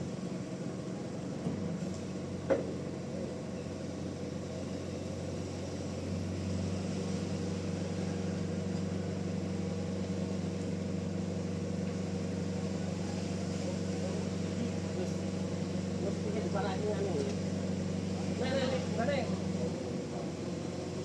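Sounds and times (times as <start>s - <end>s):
mill engine running: 0.0s - 21.0s.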